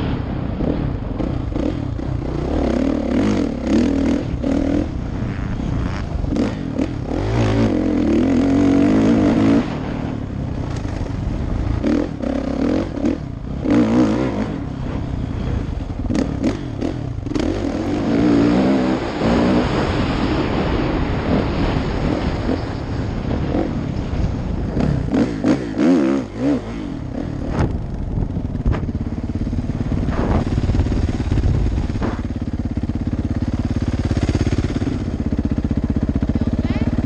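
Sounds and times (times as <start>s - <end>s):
dirt bike engine revving: 0.0s - 37.0s
wind on microphone: 0.0s - 37.0s.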